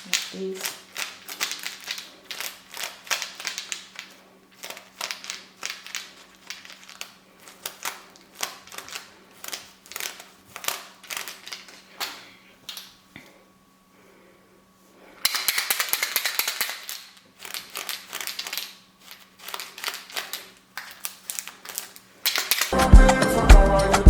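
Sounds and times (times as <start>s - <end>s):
handling clicks and rustles: 0.0s - 13.0s, 15.2s - 22.8s.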